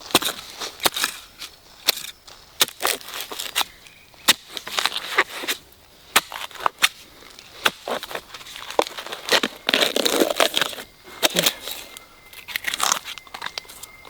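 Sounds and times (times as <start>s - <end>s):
dry plant material crackling and snapping: 0.0s - 14.0s.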